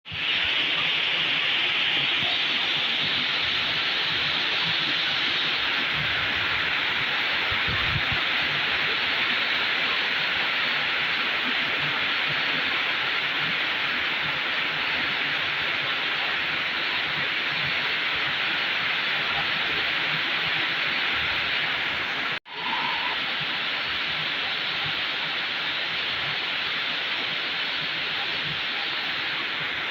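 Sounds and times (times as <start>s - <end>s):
steady rain: 0.1s - 29.9s.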